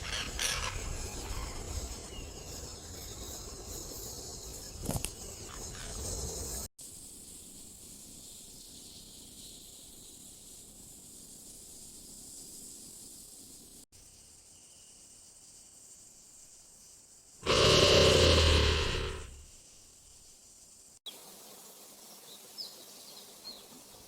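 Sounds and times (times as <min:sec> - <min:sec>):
rainforest ambience hiss: 0:00.0 - 0:24.0.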